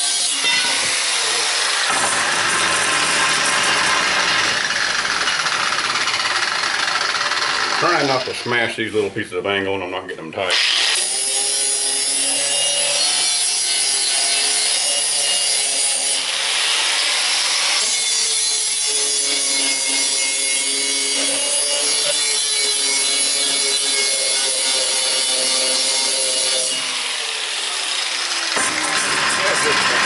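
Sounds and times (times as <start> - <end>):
electric grinder grinding steel: 0.0 - 8.8, 10.5 - 30.0.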